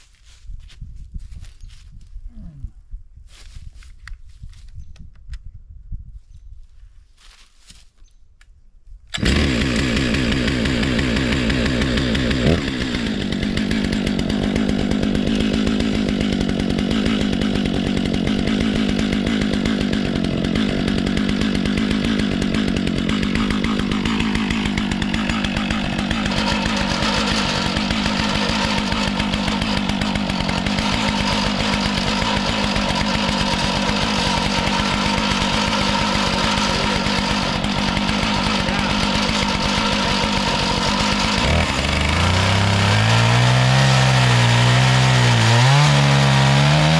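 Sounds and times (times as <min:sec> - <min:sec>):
chainsaw cutting wood at full throttle: 0:09.1 - 0:46.9.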